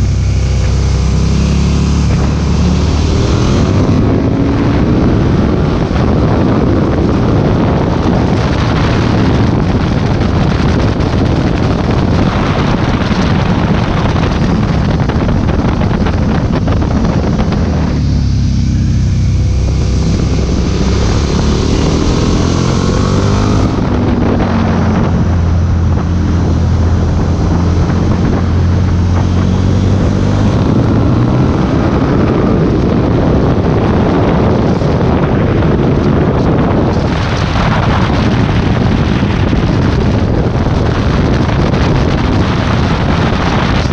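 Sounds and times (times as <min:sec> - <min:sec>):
motorcycle engine running: 0:00.0 - 0:43.9
wind noise on microphone: 0:00.0 - 0:43.9.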